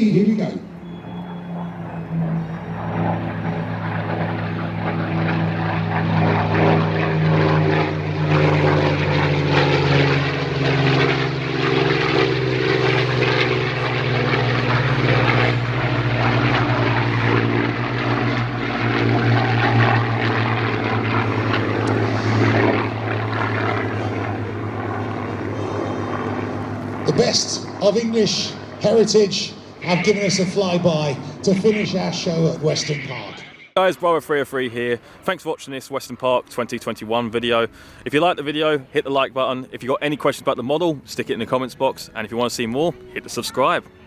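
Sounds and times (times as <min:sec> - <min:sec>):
propeller aircraft engines droning: 0:00.0 - 0:44.0.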